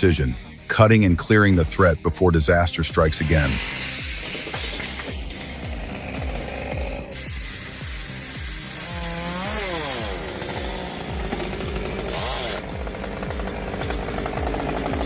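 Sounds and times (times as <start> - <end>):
background music with steady beat: 0.0 - 15.0
chainsaw cutting and revving: 0.0 - 15.0.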